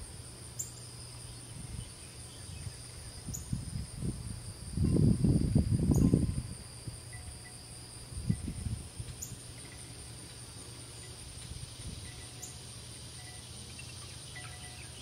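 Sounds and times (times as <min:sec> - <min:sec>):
insects trilling: 0:00.0 - 0:15.0
lower insect trill: 0:00.0 - 0:15.0.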